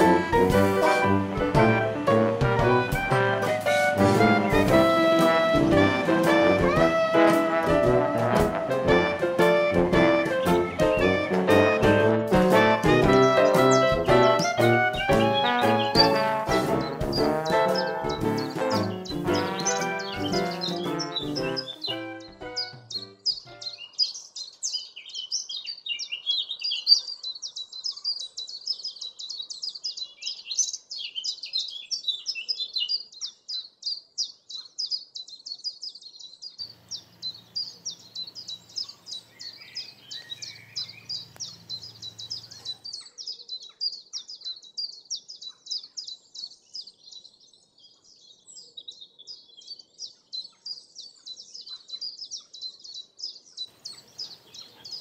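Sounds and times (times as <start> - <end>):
small songbirds chirping: 8.9 - 55.0.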